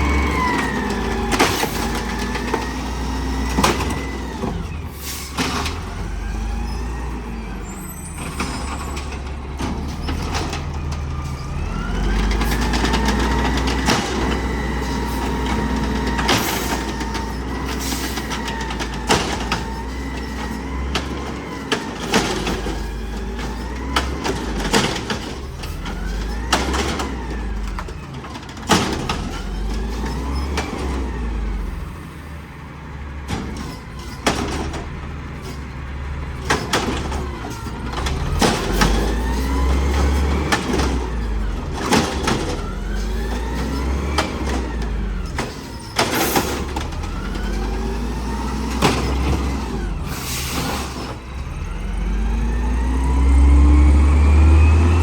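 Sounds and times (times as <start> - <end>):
garbage truck engine rumble: 0.0 - 55.0.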